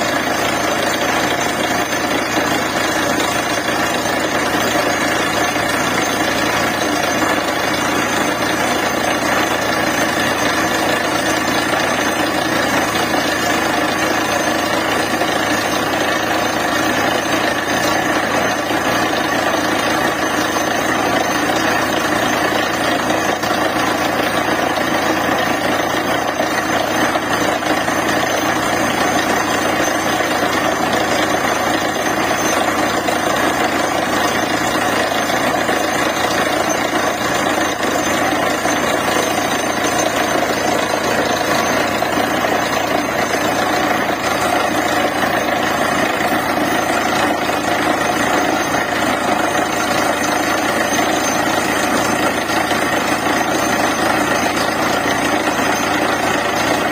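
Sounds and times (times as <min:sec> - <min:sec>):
drilling rig running: 0:00.0 - 0:56.9.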